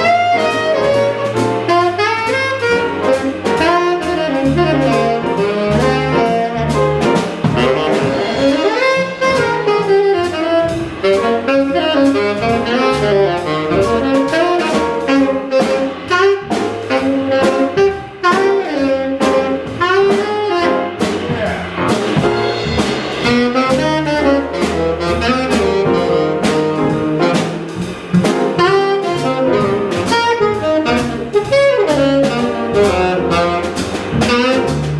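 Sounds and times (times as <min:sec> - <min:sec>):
drum kit cymbals: 0:00.0 - 0:34.9
piano: 0:00.0 - 0:34.9
saxophone solo: 0:00.0 - 0:34.9
upright bass: 0:00.0 - 0:34.9.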